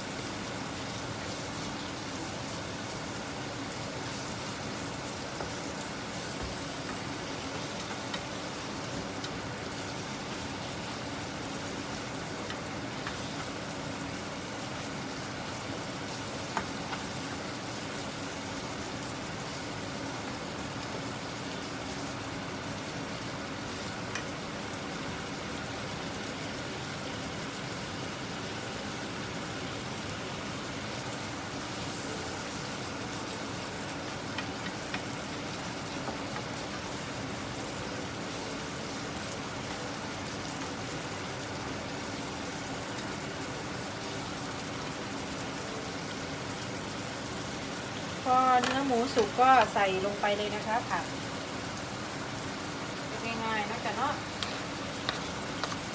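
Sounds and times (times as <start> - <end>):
meat sizzling in a wok: 0.0 - 55.9.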